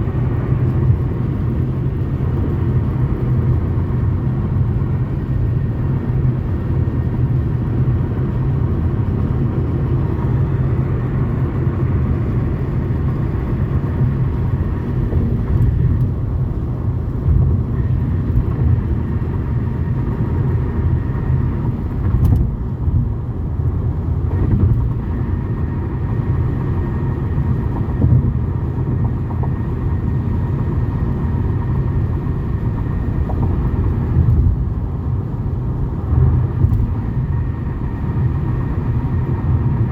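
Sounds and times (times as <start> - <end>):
road and engine rumble in car: 0.0 - 39.9.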